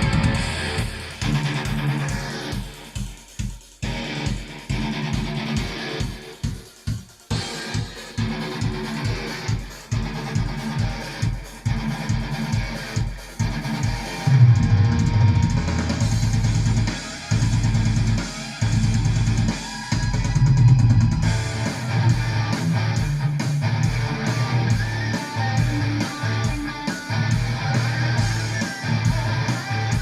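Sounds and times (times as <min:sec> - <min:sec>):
bass drum beat: 0:00.0 - 0:30.0
rock song on speakers: 0:00.0 - 0:30.0.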